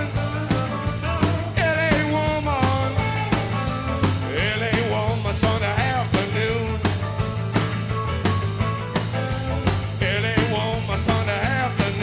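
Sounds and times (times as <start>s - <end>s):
drum beat: 0.0s - 12.0s
low bass line: 0.0s - 12.0s.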